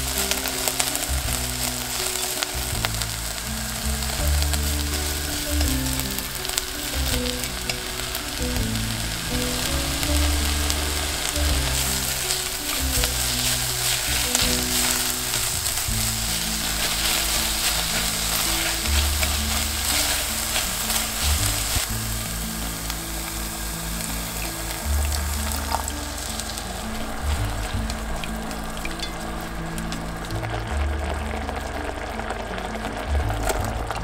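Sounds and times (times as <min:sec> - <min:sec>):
light background music: 0:00.0 - 0:34.0
vegetables sizzling in oil: 0:00.0 - 0:34.0.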